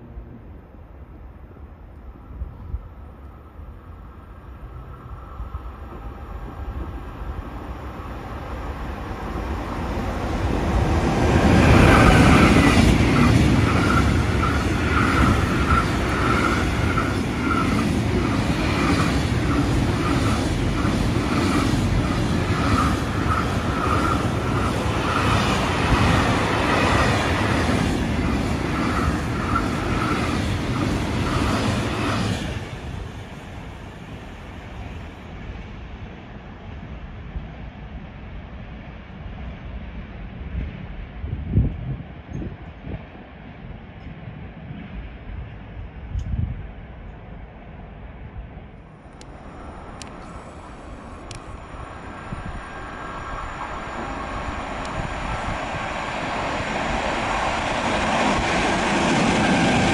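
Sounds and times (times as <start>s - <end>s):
train passing with wheel clatter: 0.0s - 59.9s.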